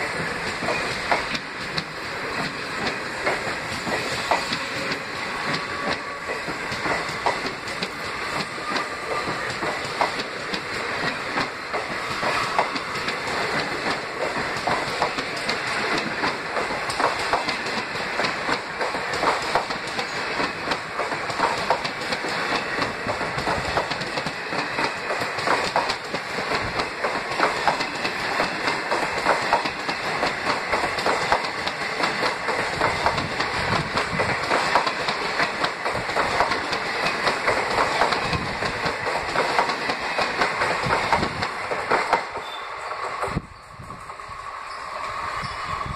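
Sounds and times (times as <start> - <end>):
rushing rail noise: 0.0 - 45.9
train wheels clattering: 0.0 - 45.9.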